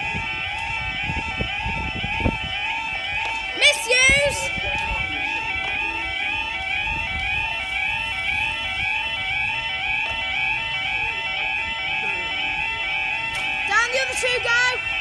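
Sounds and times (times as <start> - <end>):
level crossing alarm warbling: 0.0 - 15.0.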